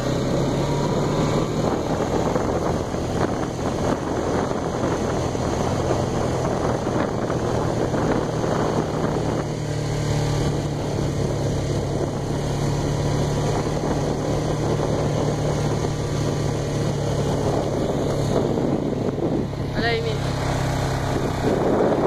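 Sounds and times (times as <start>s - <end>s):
quad bike engine running: 0.0s - 22.0s
road and tyre noise: 0.0s - 22.0s.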